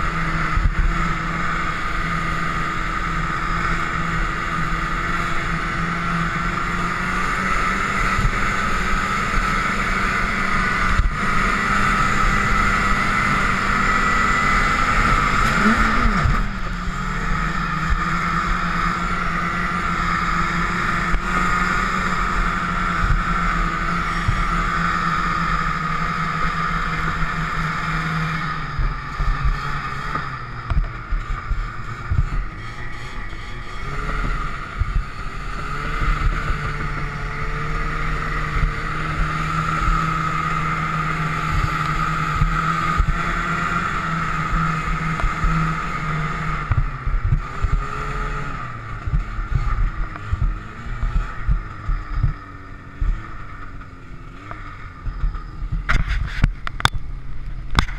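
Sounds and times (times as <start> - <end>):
snowmobile engine running: 0.0 - 57.9.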